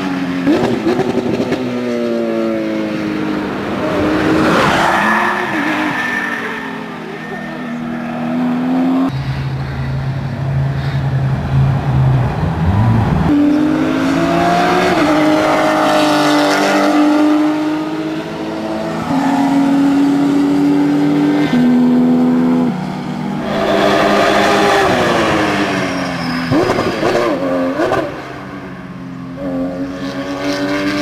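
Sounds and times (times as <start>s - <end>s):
race car engine at high revs: 0.0s - 5.7s, 11.4s - 31.0s.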